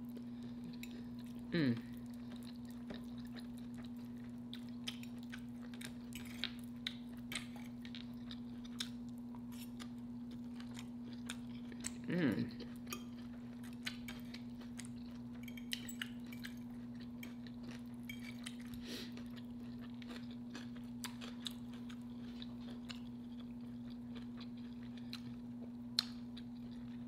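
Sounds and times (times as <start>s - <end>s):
chewing and wet mouth sounds: 0.0s - 27.0s
steady low hum: 0.0s - 27.0s.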